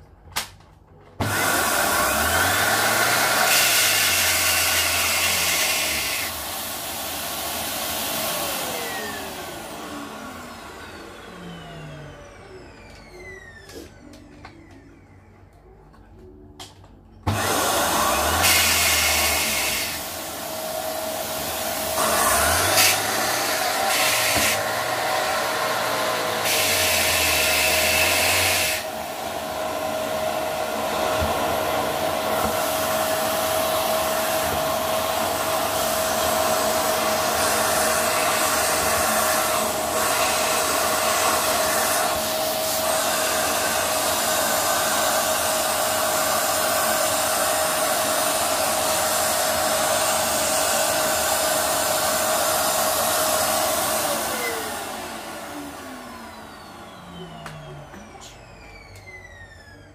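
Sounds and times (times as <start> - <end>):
vacuum cleaner running: 1.1 - 59.9.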